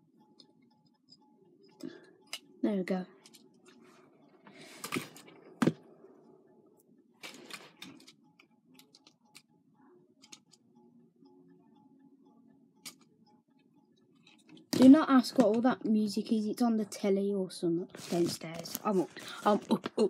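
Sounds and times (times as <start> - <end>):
faint television music: 0.0 - 20.0.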